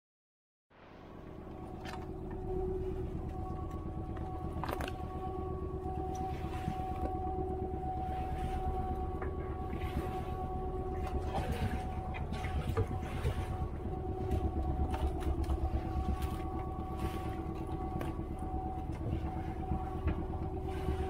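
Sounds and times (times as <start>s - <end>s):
boat engine running: 0.8s - 21.0s.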